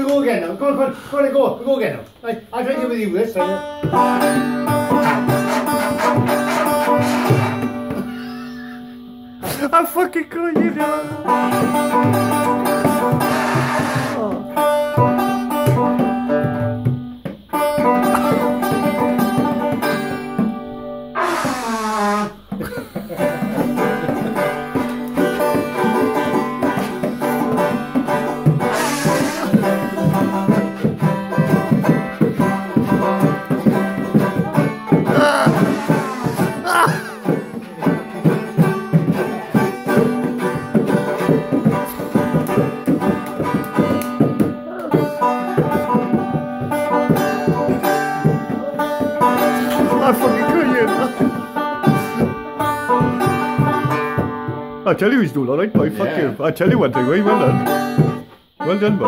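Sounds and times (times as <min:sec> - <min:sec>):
banjo picking: 0:02.2 - 0:59.0
bongos played by hand: 0:02.7 - 0:59.0.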